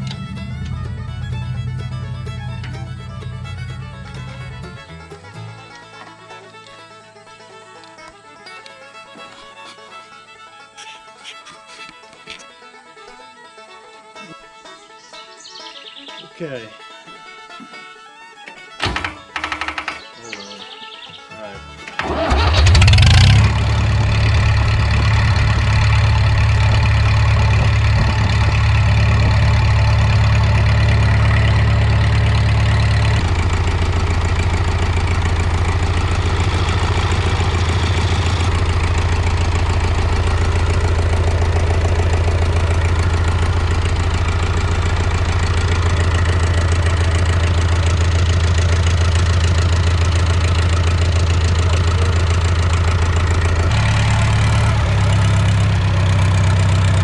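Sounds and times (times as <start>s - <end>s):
tractor diesel engine running: 0.0s - 12.2s, 18.8s - 57.0s.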